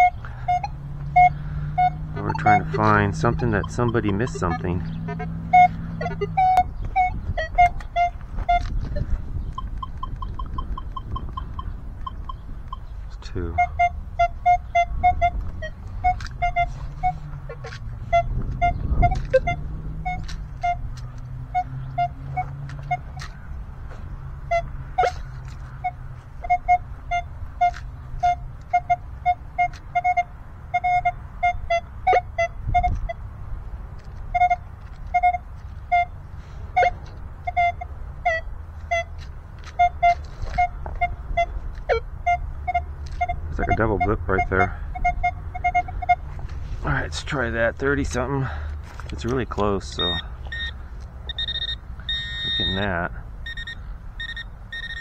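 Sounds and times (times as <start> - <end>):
metal detector beeps: 0.0 - 12.9, 13.5 - 20.9, 21.5 - 23.3, 24.5 - 25.2, 25.8 - 33.2, 34.3 - 46.2, 49.6 - 55.0.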